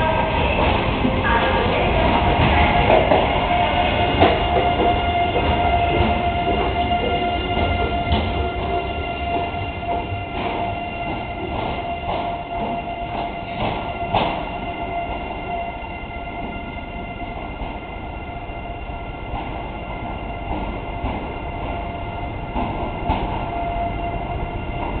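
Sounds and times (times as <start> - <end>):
train running with high whine: 0.0 - 25.0.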